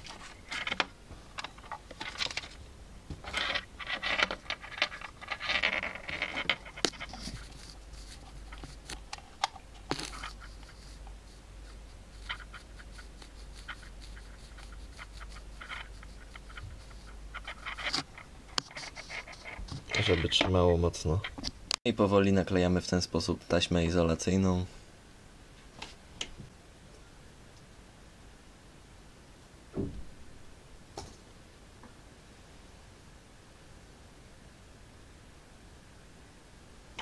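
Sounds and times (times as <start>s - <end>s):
faint low hum: 0.0s - 37.0s.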